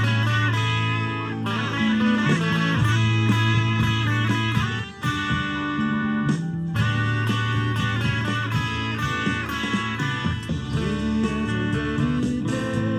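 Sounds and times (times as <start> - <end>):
bass line: 0.0 - 12.9
drums: 0.0 - 12.9
electric guitar lead lines: 0.0 - 12.9.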